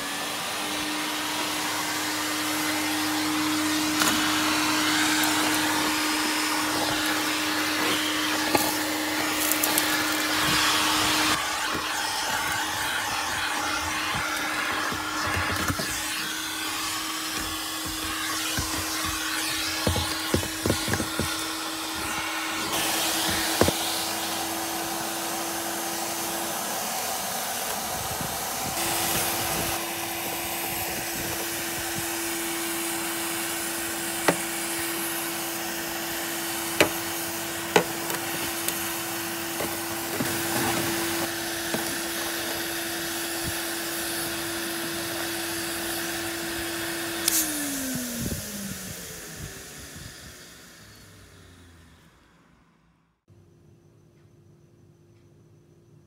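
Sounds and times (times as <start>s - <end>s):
vacuum cleaner motor humming: 0.0s - 53.0s.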